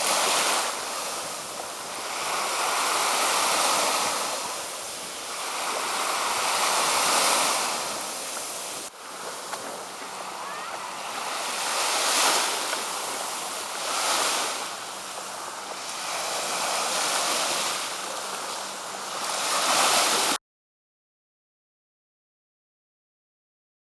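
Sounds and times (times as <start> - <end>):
waves breaking on beach: 0.0 - 20.4.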